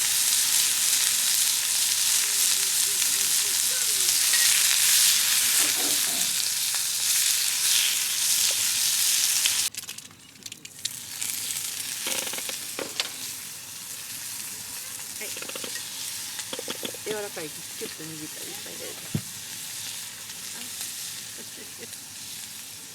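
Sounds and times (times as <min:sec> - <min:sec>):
food sizzling in a pan: 0:00.0 - 0:10.1, 0:10.7 - 0:22.9.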